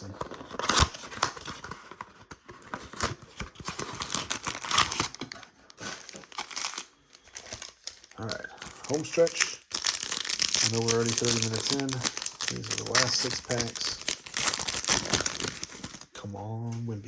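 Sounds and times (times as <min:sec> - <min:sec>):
plastic wrappers crinkling and tearing: 0:00.0 - 0:16.2.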